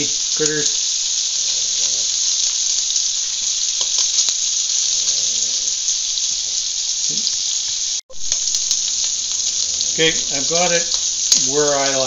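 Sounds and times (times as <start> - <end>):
sausage sizzling in a pan: 0.0 - 12.0.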